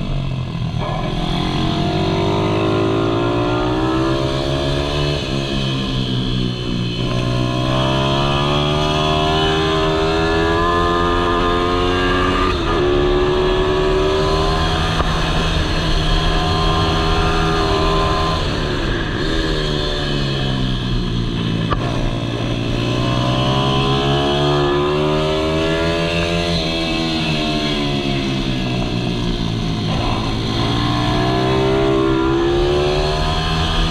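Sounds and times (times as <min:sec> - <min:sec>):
motorbike engine revving: 0:00.0 - 0:33.9.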